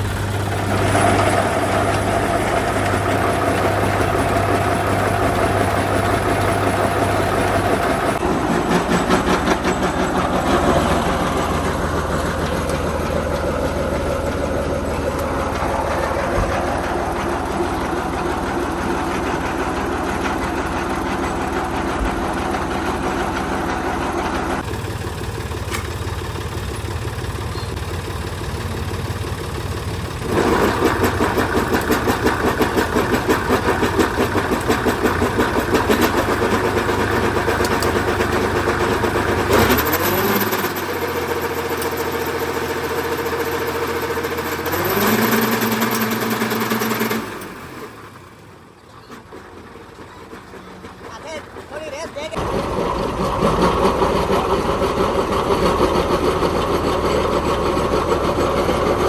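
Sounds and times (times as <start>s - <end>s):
grass cutting machine running: 0.0s - 59.0s.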